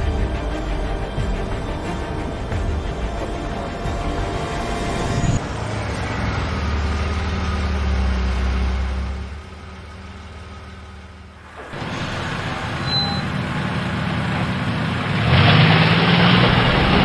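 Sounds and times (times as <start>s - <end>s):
engine rumbling: 0.0s - 17.0s.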